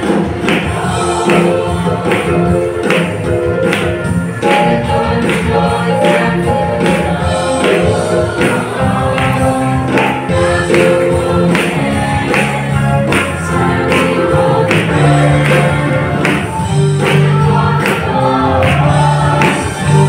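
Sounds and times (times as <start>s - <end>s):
choir singing gospel song: 0.0s - 20.0s
instrumental accompaniment: 0.0s - 20.0s
steady percussion beat: 0.0s - 20.0s.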